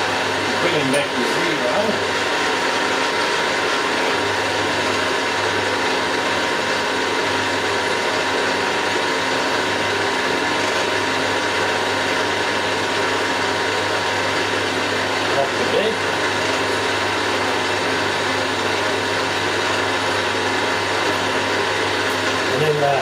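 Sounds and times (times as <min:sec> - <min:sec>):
milling machine whirring: 0:00.0 - 0:23.0.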